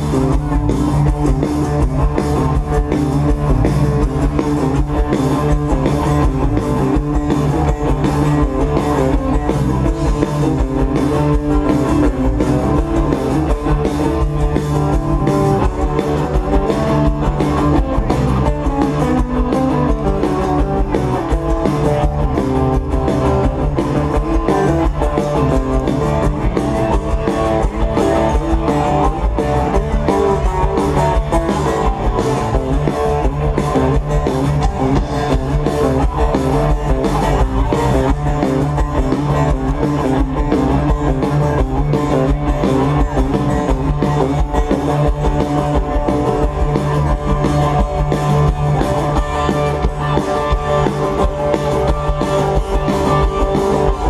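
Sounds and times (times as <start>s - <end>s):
drum kit beat: 0.0s - 54.0s
electric guitar: 0.0s - 54.0s.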